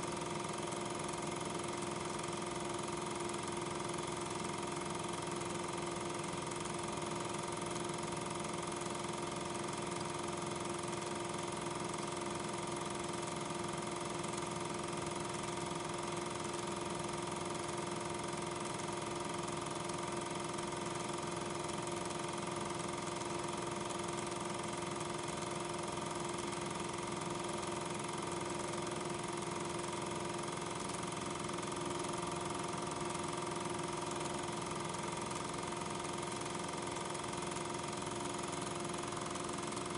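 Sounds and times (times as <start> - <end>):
film projector running hum: 0.0 - 39.9.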